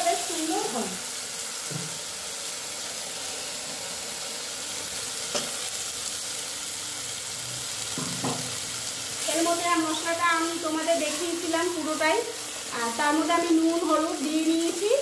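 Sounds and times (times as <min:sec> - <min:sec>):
paste sizzling in hot oil: 0:00.0 - 0:15.0.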